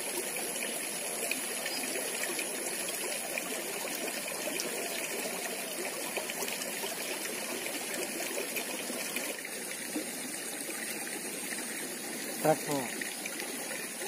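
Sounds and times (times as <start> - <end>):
stream trickling over stones: 0.0 - 14.0.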